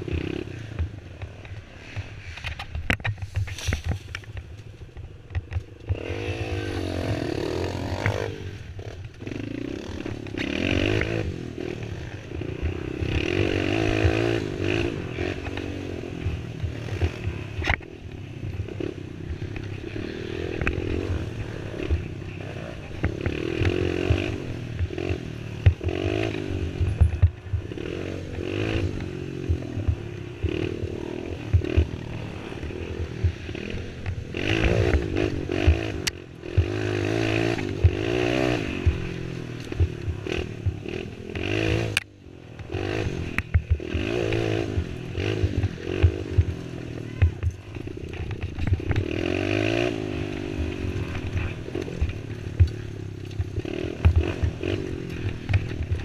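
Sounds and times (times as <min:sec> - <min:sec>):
quad engine revving: 0:05.8 - 0:17.8, 0:19.6 - 0:56.0.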